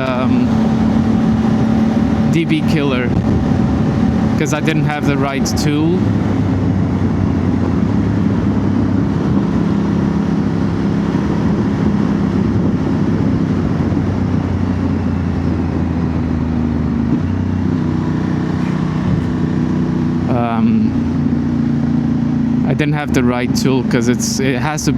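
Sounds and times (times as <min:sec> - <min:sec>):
wind noise: 0:00.0 - 0:21.8
motorcycle engine running: 0:00.0 - 0:24.9.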